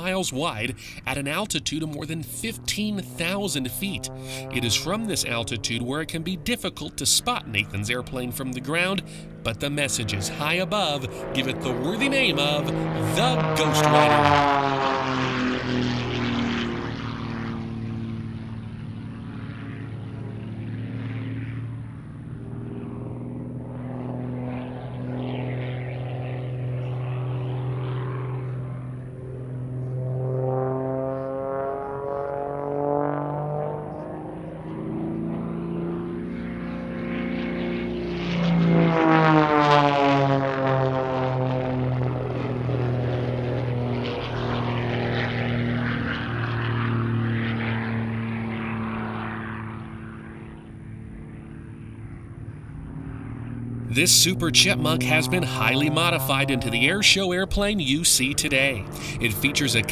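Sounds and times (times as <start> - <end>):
propeller plane engine: 0.0 - 59.9.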